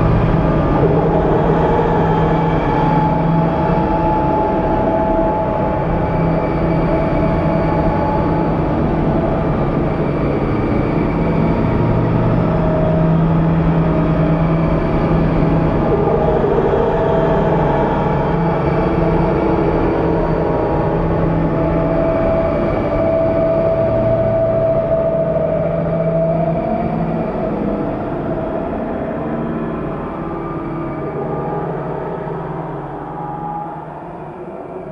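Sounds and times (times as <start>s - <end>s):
rumbling noise wall: 0.0s - 34.9s.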